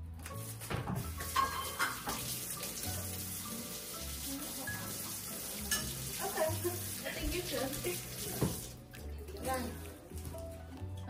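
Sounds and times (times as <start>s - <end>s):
tap water running into sink: 0.2s - 10.2s.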